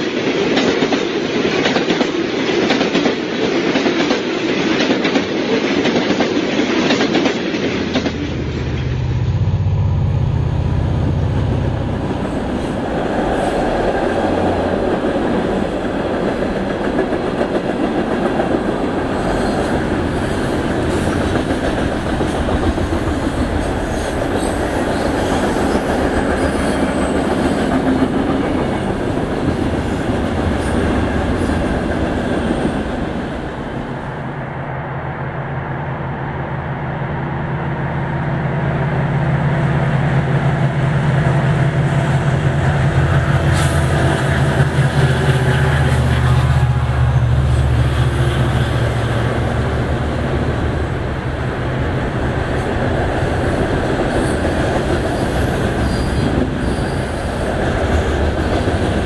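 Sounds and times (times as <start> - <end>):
diesel locomotive engine drone: 0.0 - 59.0
train cars rumbling on rails: 0.0 - 59.0.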